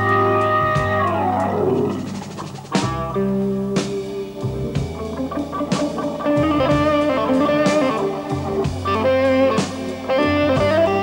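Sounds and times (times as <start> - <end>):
drum strokes: 0.0 - 11.0
electric guitar lead: 0.0 - 11.0
organ chords and bass: 0.0 - 11.0.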